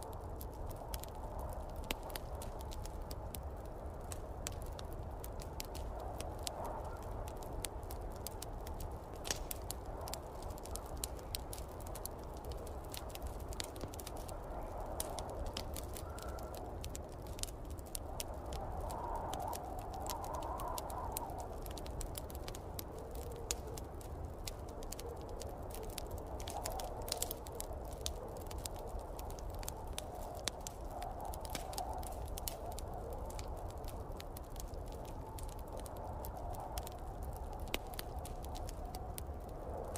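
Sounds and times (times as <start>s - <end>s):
wind gusts: 0.0s - 39.9s
wood fire crackling and popping: 0.0s - 39.9s.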